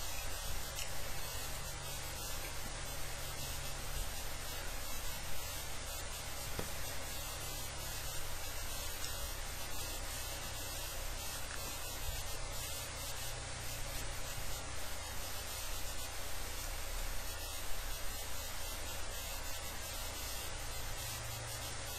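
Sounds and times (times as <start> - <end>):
low electrical hum: 0.0 - 21.9
steady hiss: 0.0 - 21.9.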